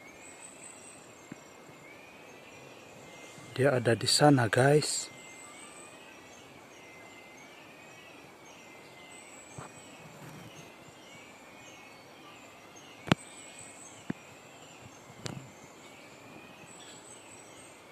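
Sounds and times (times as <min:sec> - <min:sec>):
high insect whine: 0:00.0 - 0:17.9.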